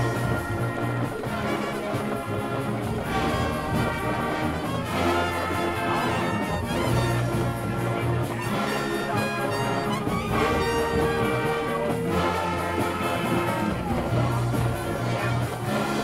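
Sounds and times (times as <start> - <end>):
marching band brass playing: 0.0 - 16.0.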